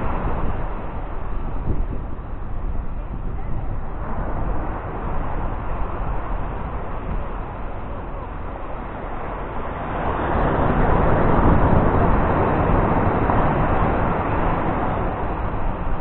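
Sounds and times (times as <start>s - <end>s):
steady surf wash: 0.0s - 16.0s
wave breaking on beach: 0.0s - 16.0s.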